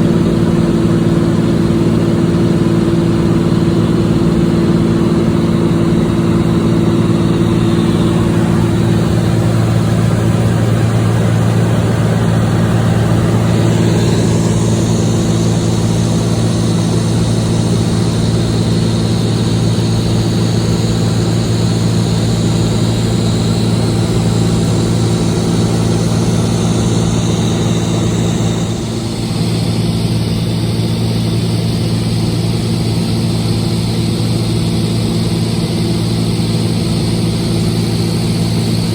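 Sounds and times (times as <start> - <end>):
airplane engine and propeller droning: 0.0 - 38.9.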